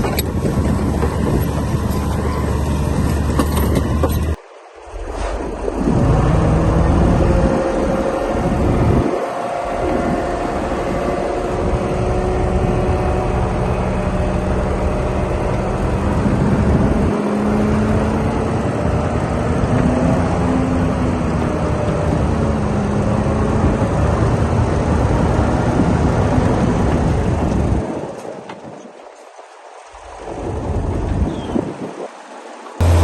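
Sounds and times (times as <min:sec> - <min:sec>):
bulldozer engine rumbling: 0:00.0 - 0:28.0, 0:32.8 - 0:33.0.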